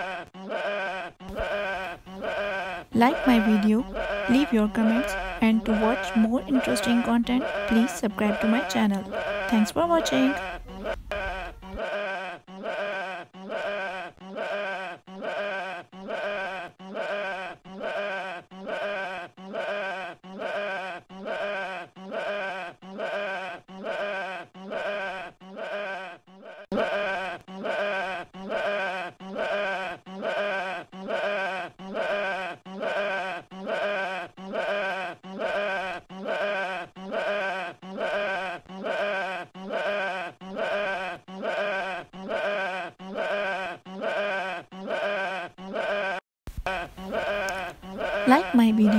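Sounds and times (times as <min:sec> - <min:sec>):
sheep bleating: 0:00.0 - 0:48.9.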